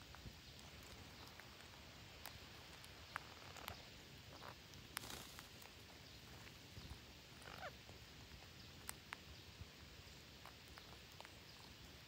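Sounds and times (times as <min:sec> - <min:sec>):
parakeets pecking at soil: 0:00.0 - 0:12.0
quiet forest background: 0:00.0 - 0:12.0.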